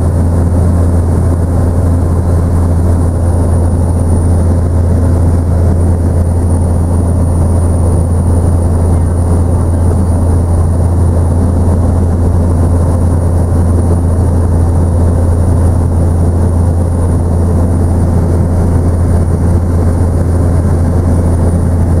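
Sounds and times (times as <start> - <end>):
helicopter cabin drone: 0.0 - 22.0.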